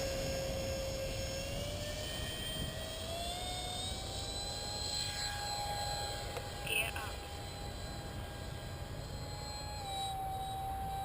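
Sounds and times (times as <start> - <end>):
electric ducted fan whine: 0.0 - 11.0.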